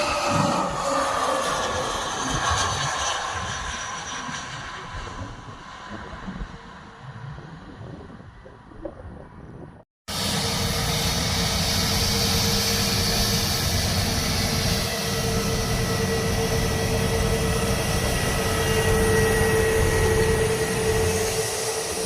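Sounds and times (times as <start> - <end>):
jet engines roaring: 0.0 - 8.8, 10.1 - 22.0.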